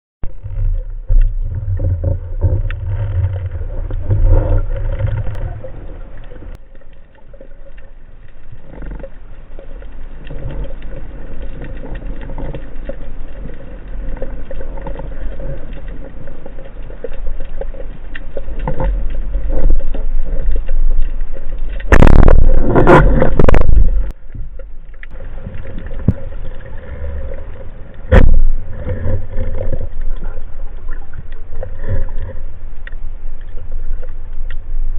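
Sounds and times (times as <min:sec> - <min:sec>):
low rumble: 0:00.2 - 0:34.9
muffled underwater movement: 0:00.2 - 0:34.9.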